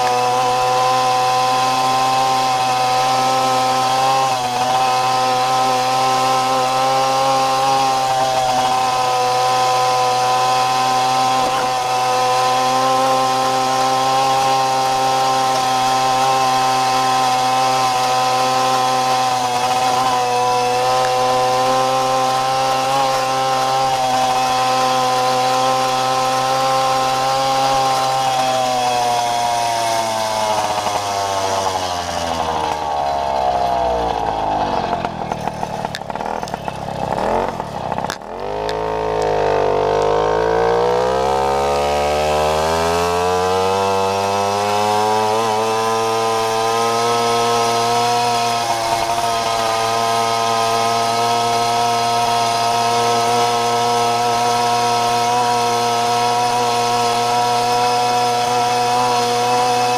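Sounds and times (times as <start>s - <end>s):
two-stroke moped engine revving: 0.0s - 59.9s.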